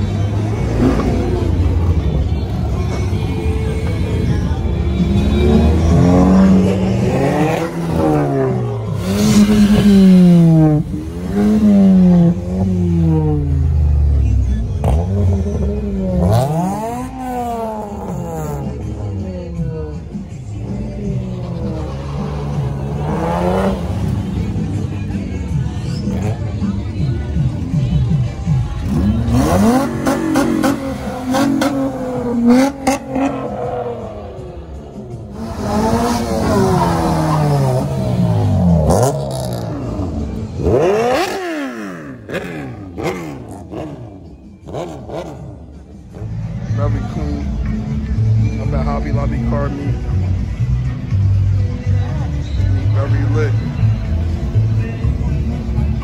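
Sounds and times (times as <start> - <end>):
car engine revving: 0.0 - 3.1, 4.8 - 20.0, 20.6 - 26.8, 28.6 - 49.1.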